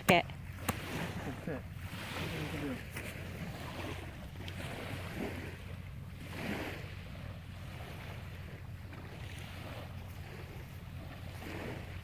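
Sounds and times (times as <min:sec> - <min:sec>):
small waves lapping on shore: 0:00.0 - 0:12.0
wind rumble on microphone: 0:00.0 - 0:12.0.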